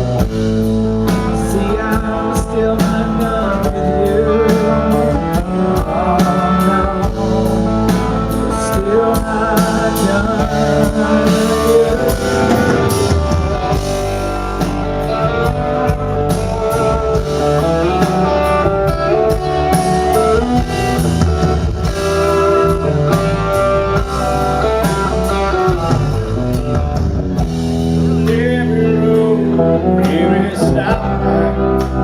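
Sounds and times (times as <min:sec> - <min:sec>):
bass guitar: 0:00.0 - 0:32.0
drums: 0:00.0 - 0:32.0
electric guitar lead: 0:00.0 - 0:32.0.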